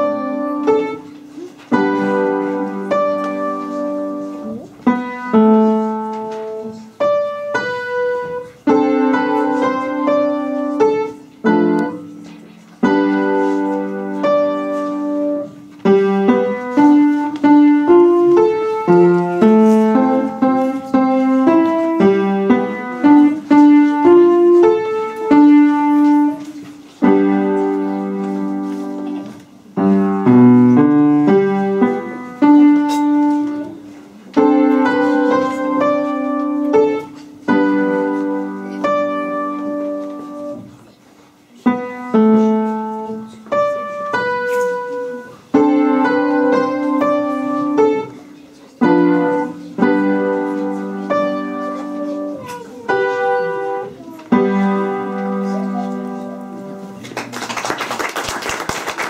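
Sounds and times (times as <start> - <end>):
solo piano playing: 0.0 - 57.2.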